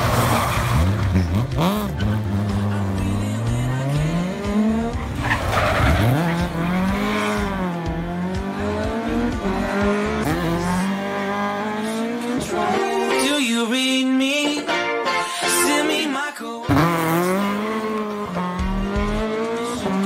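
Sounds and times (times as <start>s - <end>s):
rally car engines revving: 0.0s - 14.4s, 16.7s - 20.0s.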